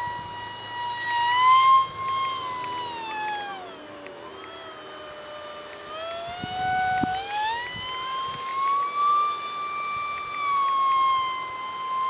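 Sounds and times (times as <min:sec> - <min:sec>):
electric ducted fan whining: 0:00.0 - 0:12.0.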